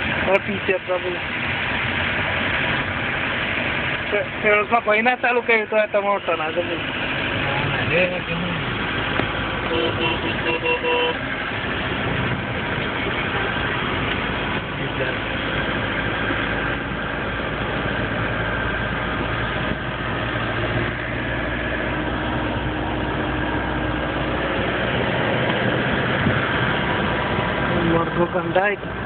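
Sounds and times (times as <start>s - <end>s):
road noise on dirt road: 0.0s - 29.0s
vehicle engine running: 0.0s - 29.0s.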